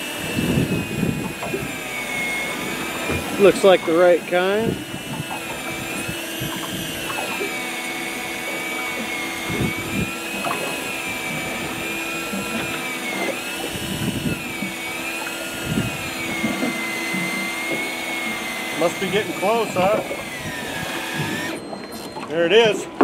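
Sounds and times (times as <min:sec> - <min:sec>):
electric reel motor whining: 0:00.0 - 0:23.0.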